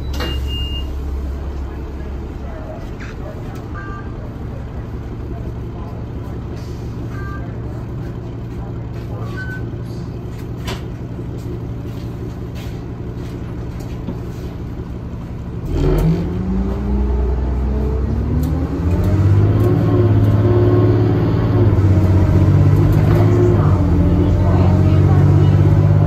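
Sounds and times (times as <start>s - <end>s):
bus engine idling and revving: 0.0s - 26.0s.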